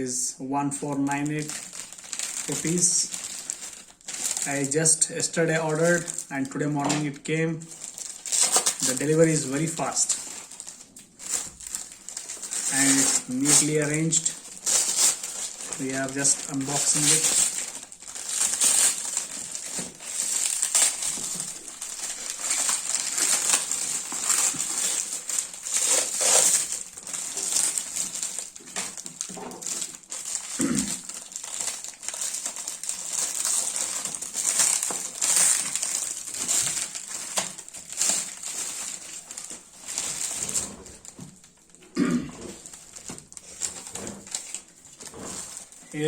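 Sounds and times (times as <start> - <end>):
packaging crinkling and tearing: 0.8 - 46.0.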